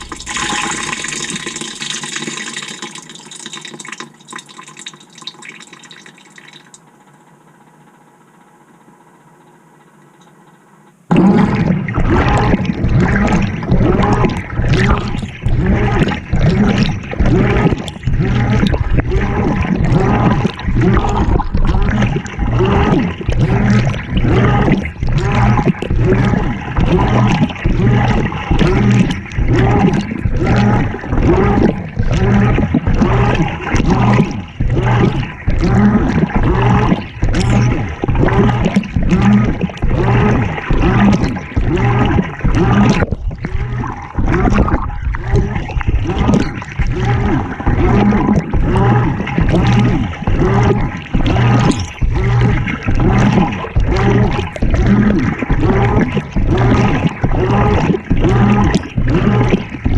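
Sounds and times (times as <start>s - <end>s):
washer water sloshing: 0.0s - 6.8s, 11.1s - 59.9s
washer agitator churning: 0.0s - 7.0s, 11.0s - 59.9s.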